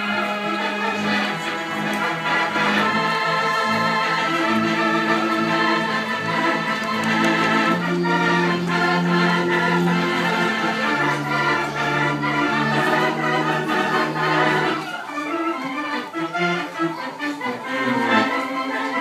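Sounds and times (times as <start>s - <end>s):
theatre organ playing chords: 0.0s - 19.0s.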